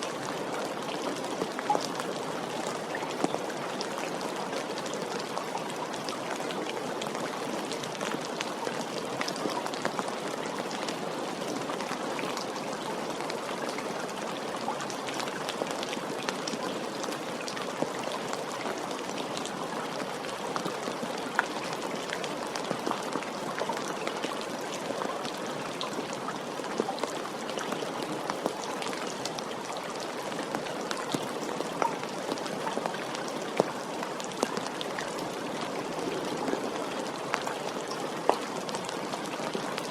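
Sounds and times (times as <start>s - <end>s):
steady rain hiss: 0.0s - 39.9s
raindrops ticking close by: 0.1s - 39.9s.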